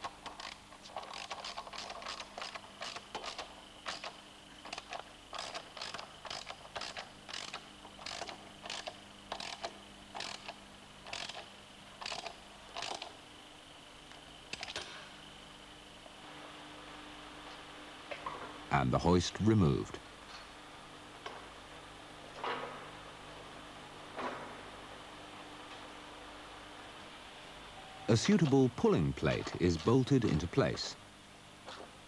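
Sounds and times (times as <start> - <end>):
faint hum with high tone: 0.0 - 32.0.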